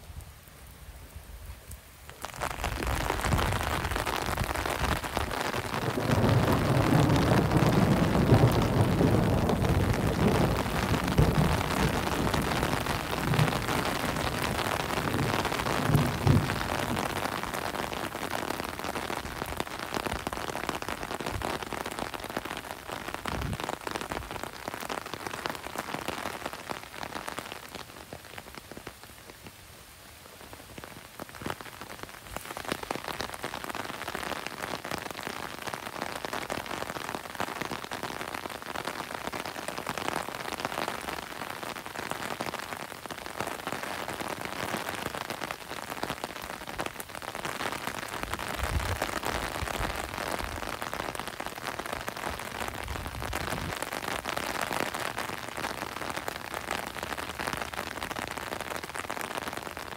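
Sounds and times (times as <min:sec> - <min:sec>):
raindrops pattering close by: 0:00.0 - 0:59.9
steady rain: 0:00.0 - 0:59.9.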